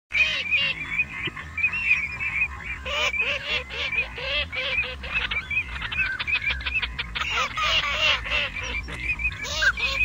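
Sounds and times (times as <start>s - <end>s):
ducks calling: 0.1s - 10.0s
honking calls: 0.1s - 10.0s.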